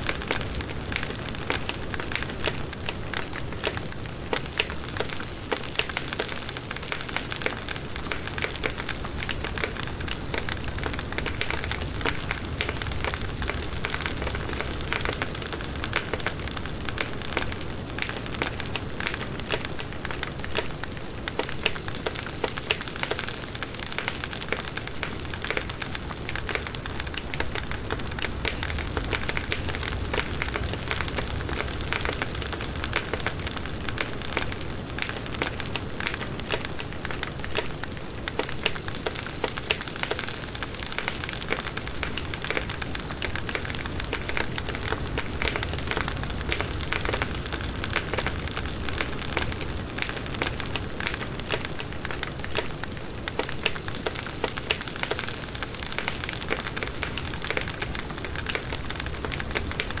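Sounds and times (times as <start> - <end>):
campfire crackling: 0.0 - 60.0.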